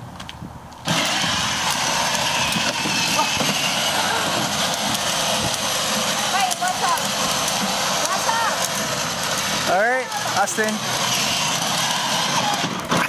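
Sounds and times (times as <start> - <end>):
toy motorcycle motor rushing: 0.8 - 13.0.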